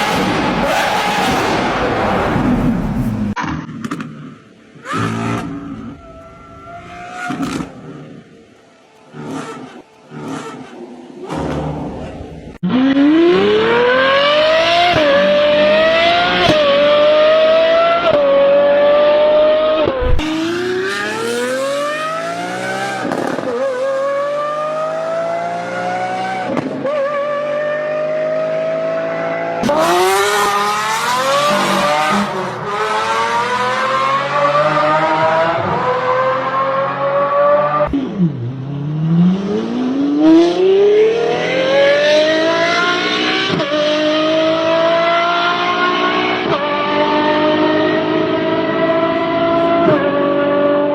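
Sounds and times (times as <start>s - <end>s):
car engine accelerating hard: 0.0s - 3.4s, 9.1s - 50.9s.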